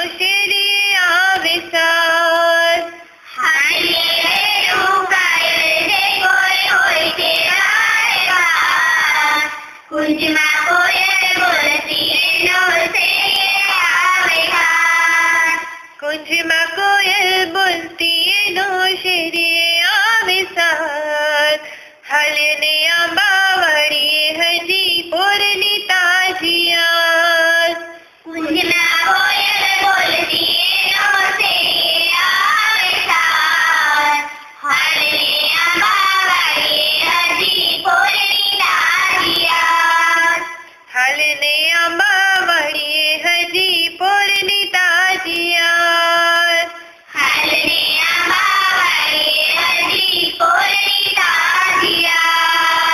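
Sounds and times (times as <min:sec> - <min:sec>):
high voice singing: 0:00.0 - 0:52.9.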